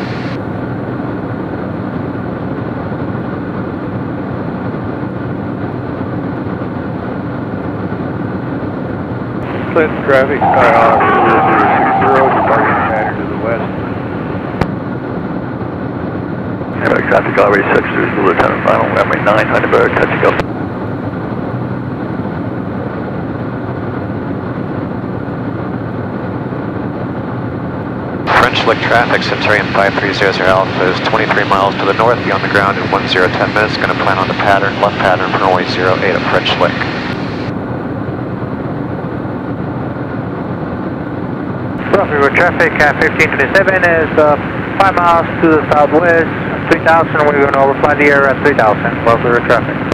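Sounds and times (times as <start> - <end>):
aircraft engine and propeller drone: 0.0 - 49.9.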